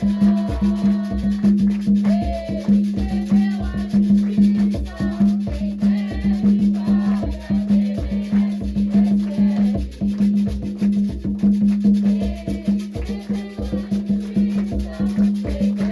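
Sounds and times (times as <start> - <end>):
voices singing a chant: 0.0 - 10.5, 11.9 - 15.9
hand drums and shaker beat: 0.0 - 15.9.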